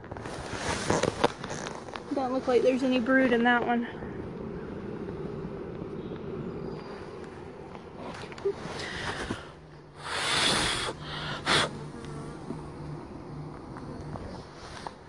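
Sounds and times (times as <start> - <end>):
bees buzzing: 1.6 - 15.0.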